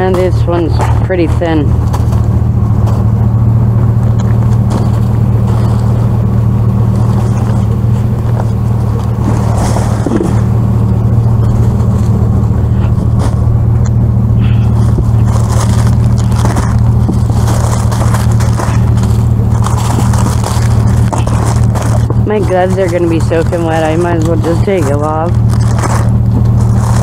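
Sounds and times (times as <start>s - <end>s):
cardboard and plastic rustling: 0.0s - 27.0s
low mechanical hum: 0.0s - 27.0s.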